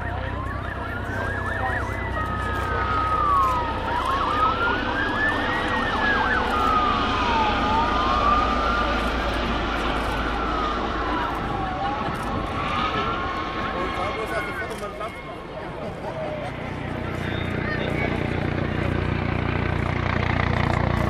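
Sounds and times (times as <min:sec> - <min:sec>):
siren wailing: 0:00.0 - 0:20.9
helicopter drone: 0:00.0 - 0:21.0
steady siren tone: 0:00.0 - 0:21.0.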